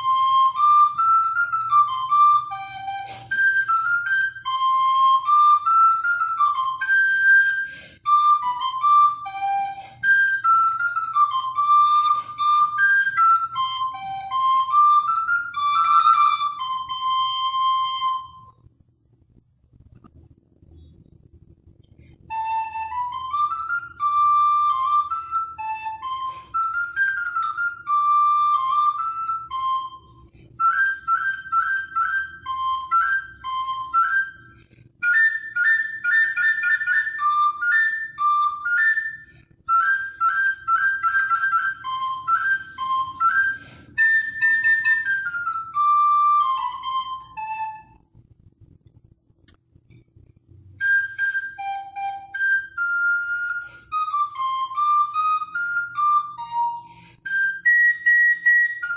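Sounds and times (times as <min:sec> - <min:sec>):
recorder playing high tune: 0:00.0 - 0:18.5, 0:22.3 - 0:48.0, 0:50.8 - 0:58.9.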